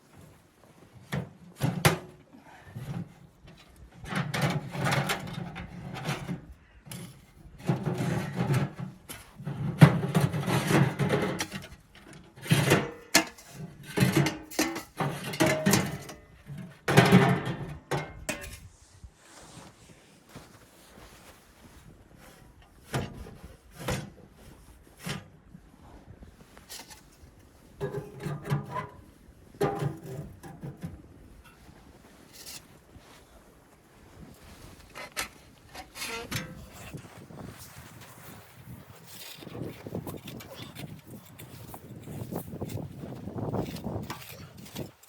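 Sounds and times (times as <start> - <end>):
knocks and scrapes: 0.1 - 45.0.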